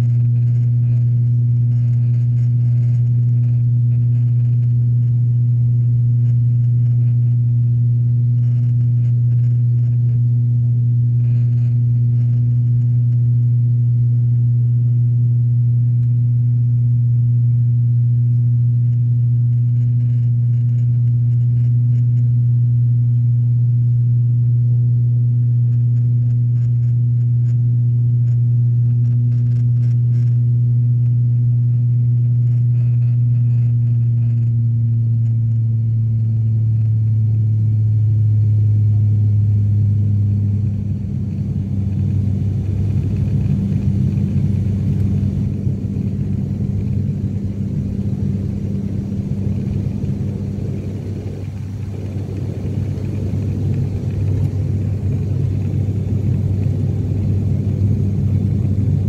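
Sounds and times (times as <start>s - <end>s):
airliner engine drone: 0.0s - 59.0s.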